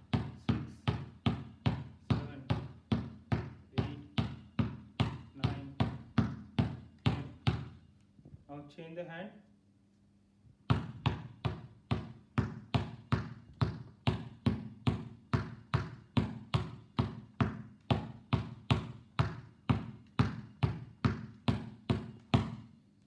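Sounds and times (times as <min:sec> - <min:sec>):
basketball bouncing on indoor floor: 0:00.0 - 0:07.9, 0:10.6 - 0:22.8.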